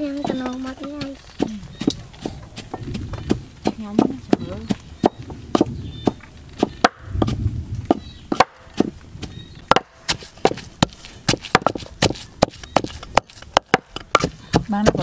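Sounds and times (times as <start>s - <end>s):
pestle pounding in mortar: 0.0s - 15.0s
cleaver chopping on wooden board: 0.2s - 15.0s.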